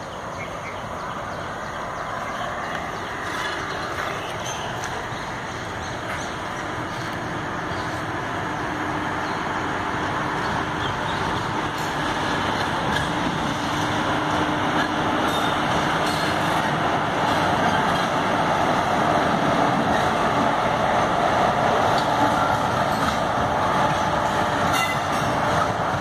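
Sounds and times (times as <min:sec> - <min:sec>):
locomotive hum: 0:00.0 - 0:26.0
train wheels rumbling on rails: 0:00.0 - 0:26.0.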